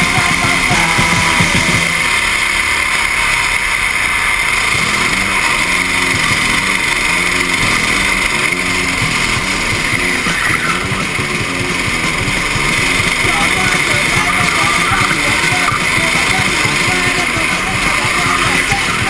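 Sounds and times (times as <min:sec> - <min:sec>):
kart engine racing: 0:00.0 - 0:19.0.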